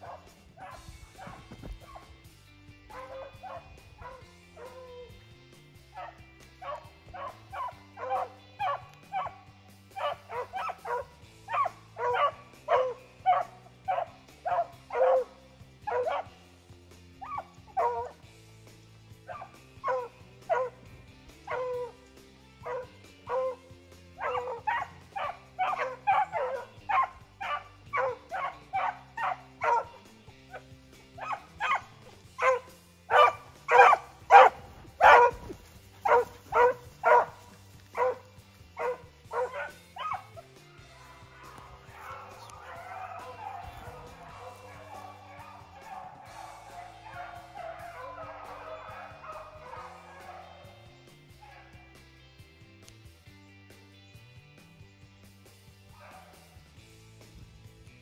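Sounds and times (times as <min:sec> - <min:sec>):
hounds baying: 0:00.0 - 0:52.2, 0:55.9 - 0:56.8
low background music: 0:00.0 - 0:58.0.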